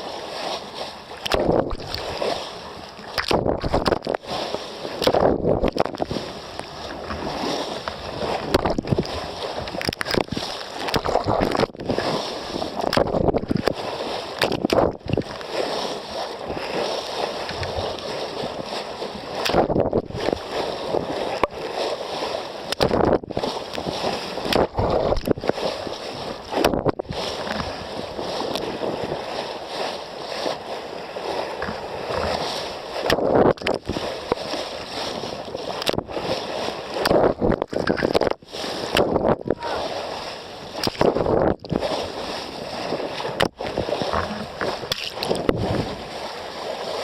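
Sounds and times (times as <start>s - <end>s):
water rushing along boat hull: 0.0s - 47.0s.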